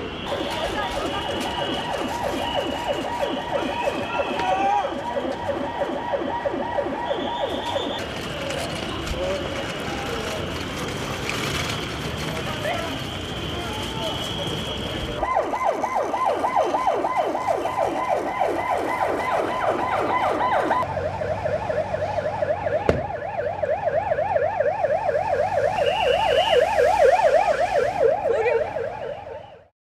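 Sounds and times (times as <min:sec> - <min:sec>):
ambulance siren wailing: 0:00.0 - 0:29.7.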